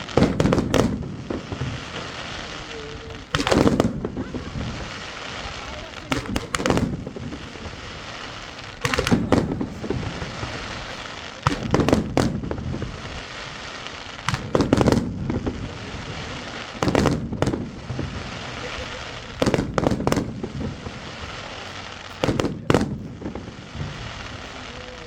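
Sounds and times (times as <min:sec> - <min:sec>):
distant crackling: 0:00.0 - 0:25.0
fireworks bangs and cracks: 0:00.0 - 0:25.0.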